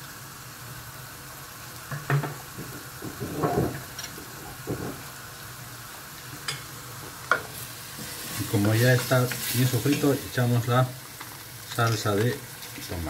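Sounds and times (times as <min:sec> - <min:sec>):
sofrito sizzling in pot: 0:00.0 - 0:13.0.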